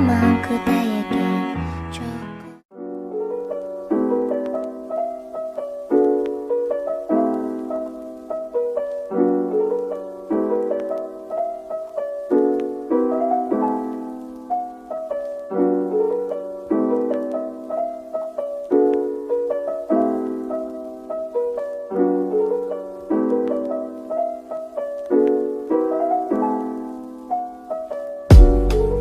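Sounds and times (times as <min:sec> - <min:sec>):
piano playing chords: 0:00.0 - 0:29.0.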